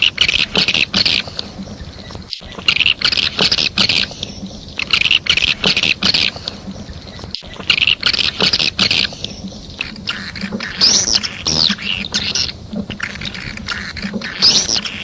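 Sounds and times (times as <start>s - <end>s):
birds twittering and chattering: 0.0s - 15.0s
high arching bird calls: 0.0s - 15.0s.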